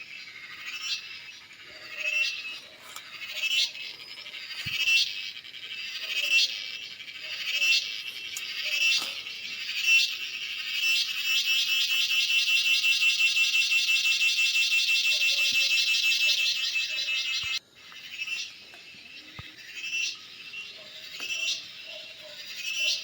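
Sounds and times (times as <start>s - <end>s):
cicada buzzing: 0.0s - 23.0s.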